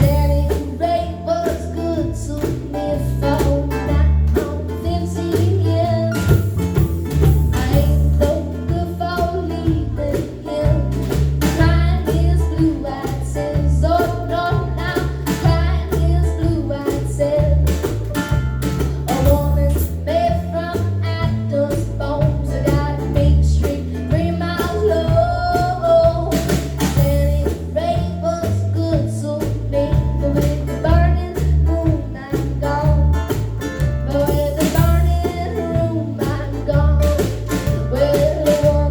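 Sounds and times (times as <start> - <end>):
live band music: 0.0 - 38.9.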